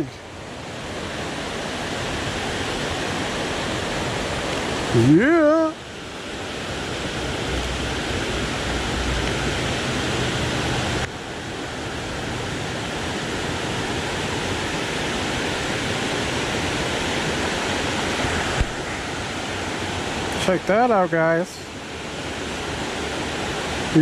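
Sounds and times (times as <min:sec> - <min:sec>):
river water rushing over falls: 0:00.0 - 0:24.0.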